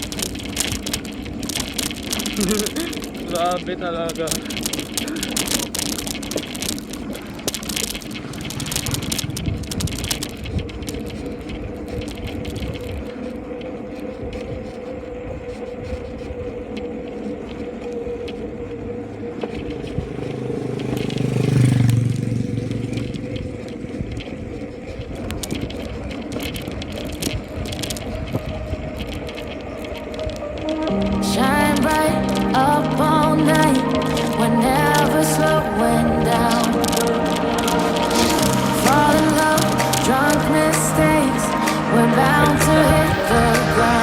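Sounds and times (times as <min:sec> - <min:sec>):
bicycle frame rattling and clicking: 0:00.0 - 0:32.4, 0:36.3 - 0:41.1
tyre and ride noise: 0:00.0 - 0:44.0.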